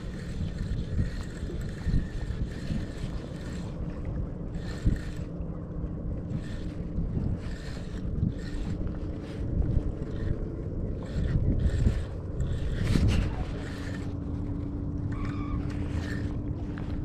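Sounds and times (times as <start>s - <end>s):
fishing reel whirring: 0.0s - 17.0s
wind rumbling on microphone: 0.0s - 17.0s.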